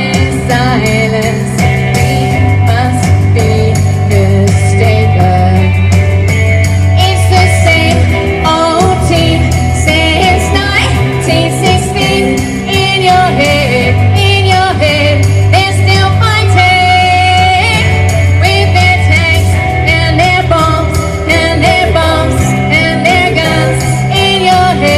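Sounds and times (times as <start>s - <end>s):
rock band accompaniment: 0.0s - 24.9s
woman singing rock song: 0.0s - 24.9s.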